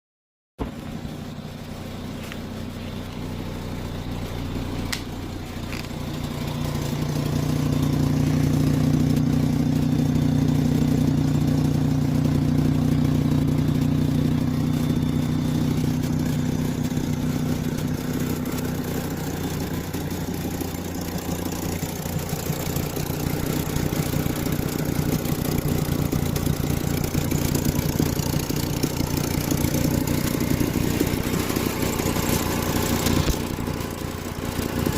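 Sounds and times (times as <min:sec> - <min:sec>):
car engine running: 0:00.6 - 0:34.9
leaking exhaust: 0:00.6 - 0:34.9.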